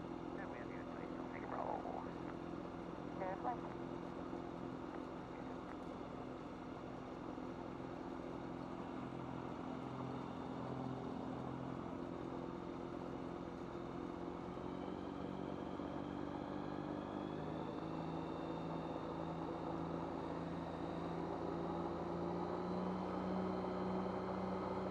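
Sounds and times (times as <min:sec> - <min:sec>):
aircraft engine running: 0:00.0 - 0:24.9.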